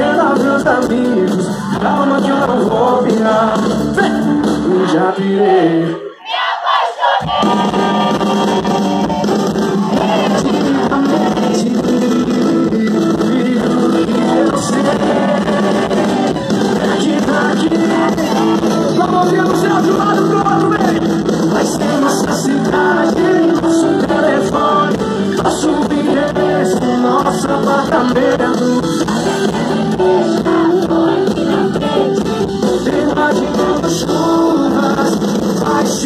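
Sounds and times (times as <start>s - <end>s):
live band music with singing: 0.0s - 36.0s.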